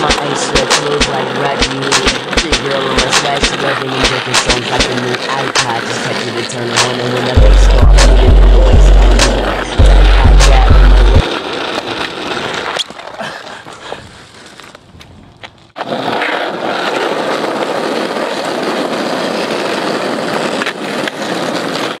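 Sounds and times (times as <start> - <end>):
skateboard wheels rolling on asphalt: 0.0 - 22.0.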